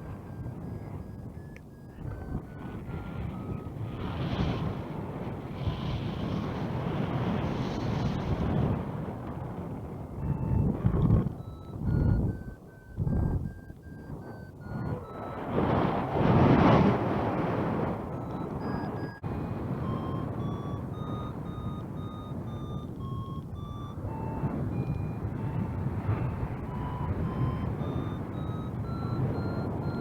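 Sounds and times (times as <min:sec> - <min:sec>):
variometer beeping: 0:00.0 - 0:30.0
wind on microphone: 0:00.0 - 0:30.0.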